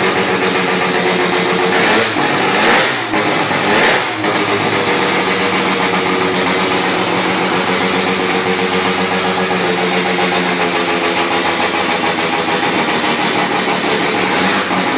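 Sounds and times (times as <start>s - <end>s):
rotary engine idling: 0.0s - 14.9s.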